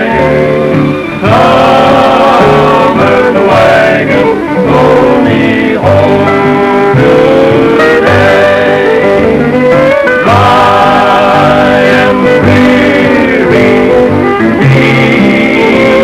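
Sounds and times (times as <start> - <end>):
guitars strumming: 0.0 - 16.0
plucked bass line: 0.0 - 16.0
sustained melody notes: 0.0 - 16.0.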